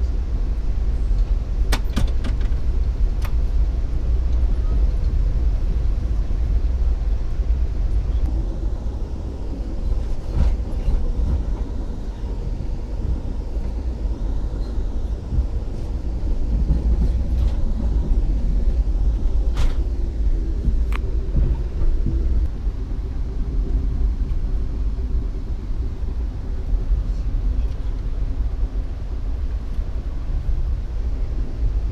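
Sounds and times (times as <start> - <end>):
train rumbling on track: 0.0 - 31.9.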